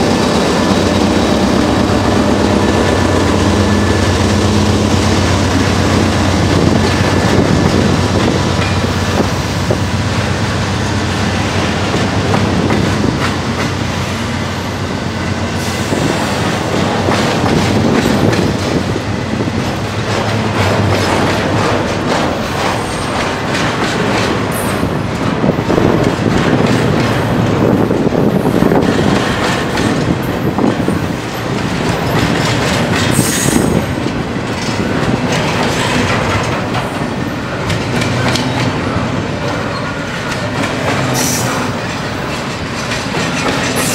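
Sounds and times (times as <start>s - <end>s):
train wheels clicking over rail joints: 0.0s - 43.9s.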